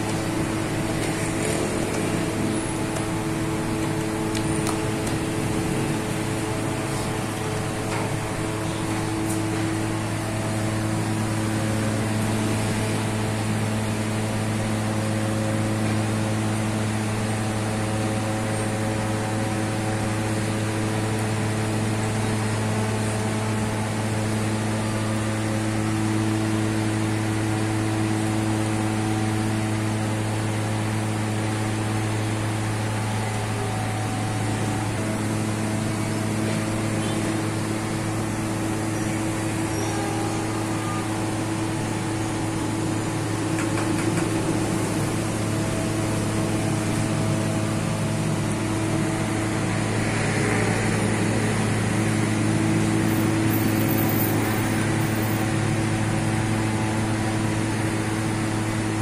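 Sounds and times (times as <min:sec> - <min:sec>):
machinery humming: 0:00.0 - 0:59.0.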